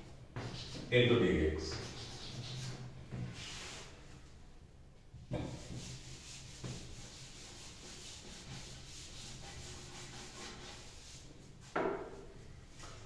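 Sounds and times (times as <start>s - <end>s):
chalkboard being wiped: 0.4s - 1.0s, 1.6s - 4.2s, 5.4s - 13.0s.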